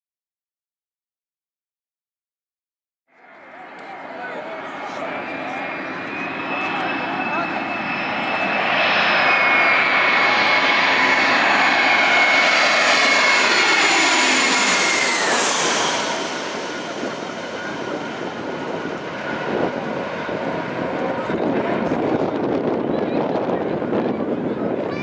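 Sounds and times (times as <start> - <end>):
jet engines passing close by: 3.1 - 25.0.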